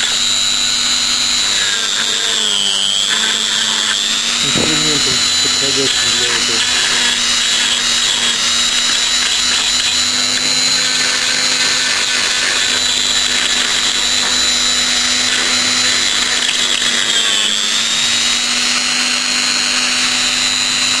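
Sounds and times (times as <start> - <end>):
rotary tool whining: 0.0 - 21.0.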